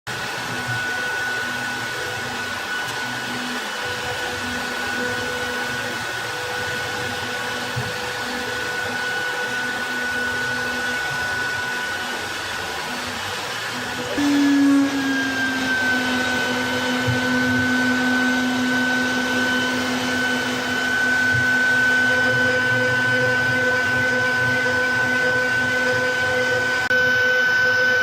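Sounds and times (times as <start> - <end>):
router motor whine: 0.1 - 28.0.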